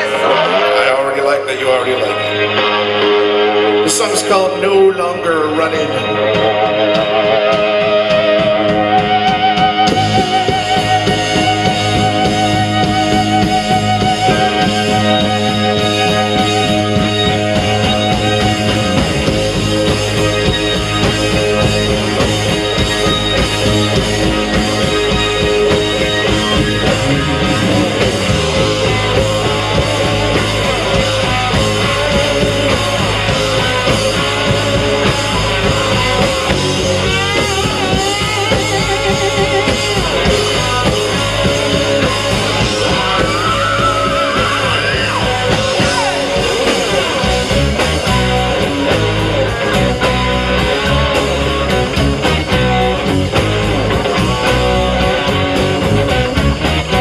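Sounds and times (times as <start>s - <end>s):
rock band playing live: 0.0s - 57.0s
wavering electric guitar notes: 0.0s - 57.0s.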